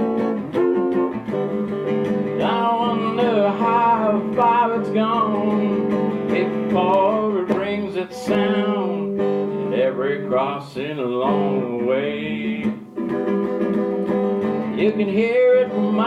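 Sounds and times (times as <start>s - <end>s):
acoustic guitar strumming blues: 0.0s - 16.0s.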